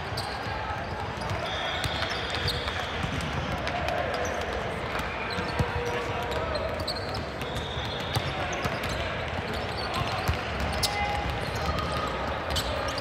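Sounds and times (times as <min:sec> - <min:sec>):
balls bouncing on hard court: 0:00.0 - 0:13.0
murmur of voices: 0:00.0 - 0:13.0.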